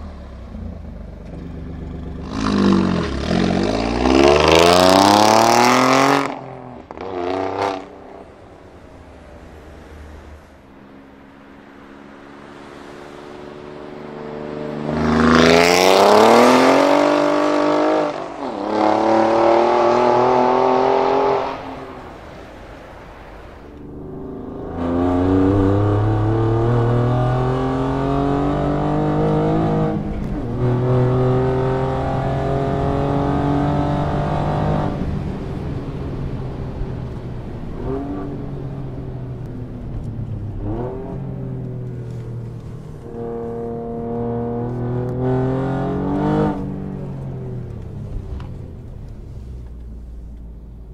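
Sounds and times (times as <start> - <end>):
car engine accelerating hard: 0.0 - 10.6, 11.8 - 23.0, 23.7 - 50.9.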